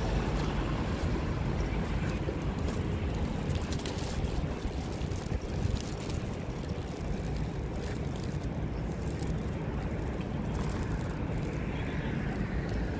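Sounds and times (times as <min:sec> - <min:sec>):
distant traffic: 0:00.0 - 0:12.9
wind buffeting microphone: 0:00.0 - 0:12.9.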